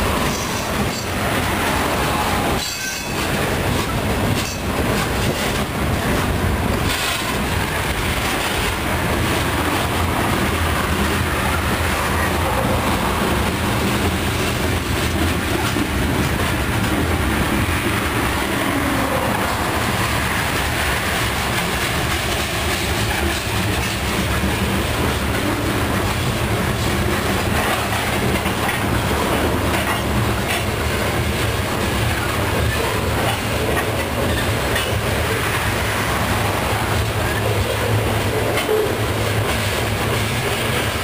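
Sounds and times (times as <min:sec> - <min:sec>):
train wheels rolling on rails: 0:00.0 - 0:41.0.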